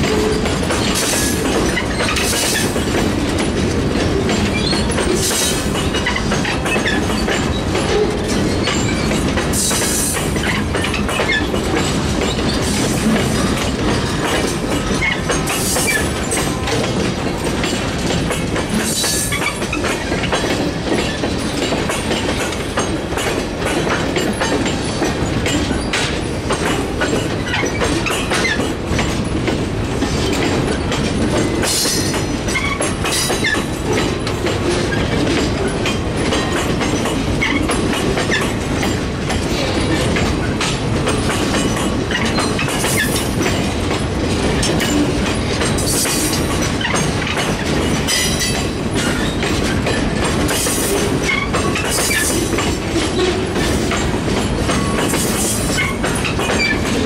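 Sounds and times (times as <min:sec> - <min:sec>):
train wheel squeal: 0:00.0 - 0:02.9, 0:04.3 - 0:16.9, 0:18.7 - 0:21.7, 0:27.0 - 0:29.1, 0:30.2 - 0:35.8, 0:36.4 - 0:43.8, 0:44.6 - 0:57.0
freight train rumbling past: 0:00.0 - 0:57.0
wheels clicking over rail joints: 0:00.0 - 0:57.0.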